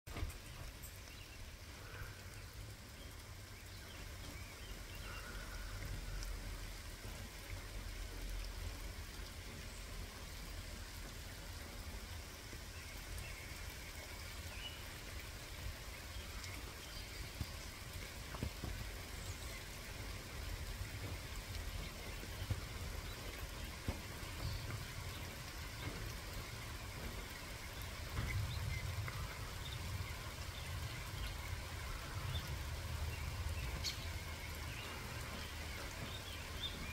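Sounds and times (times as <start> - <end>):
sharp drips: 0.1 - 36.9
steady rain: 0.1 - 36.9.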